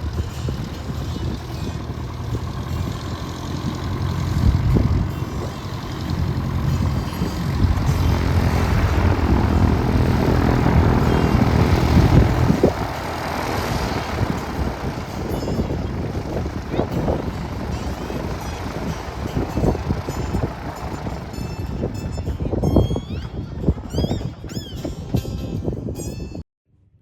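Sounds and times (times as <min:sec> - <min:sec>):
propeller airplane engine: 0:00.0 - 0:24.8.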